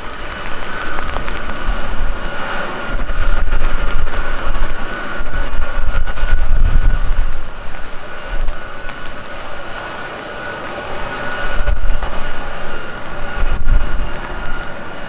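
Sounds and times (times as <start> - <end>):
jet engines whining and rumbling: 0.0 - 15.0.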